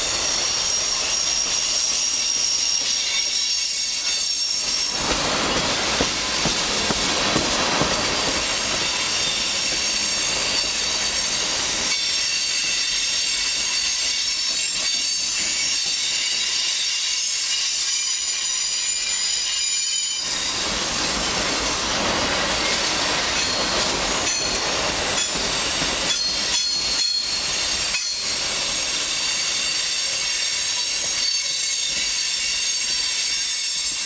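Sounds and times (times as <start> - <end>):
freight cars rolling on rails: 0.0 - 34.0.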